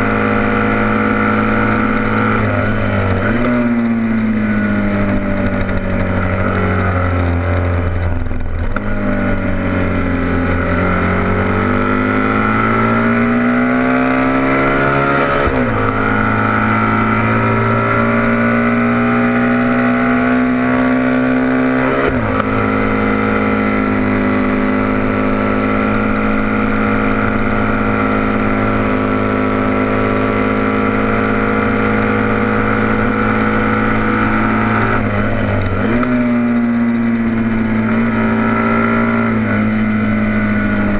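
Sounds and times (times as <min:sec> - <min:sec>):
racing motorcycle engine accelerating: 0:00.0 - 0:40.9.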